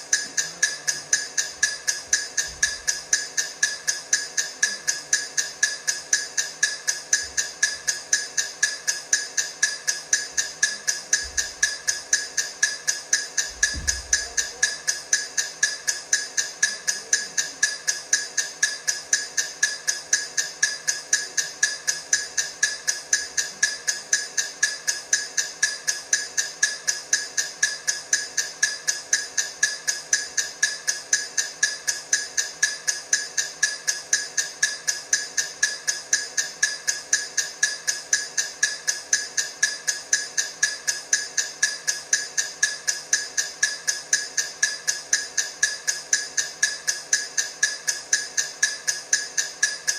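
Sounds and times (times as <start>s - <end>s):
countdown timer ticking: 0.0s - 49.9s.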